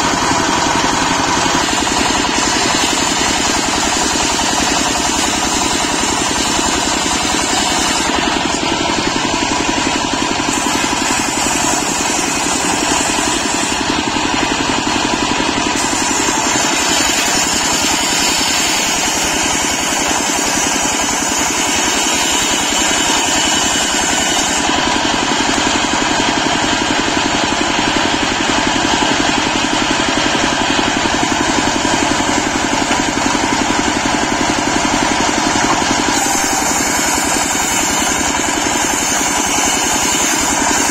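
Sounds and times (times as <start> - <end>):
circular saw ripping a log: 0.0 - 26.2, 30.1 - 40.9
stationary engine running: 0.0 - 40.9.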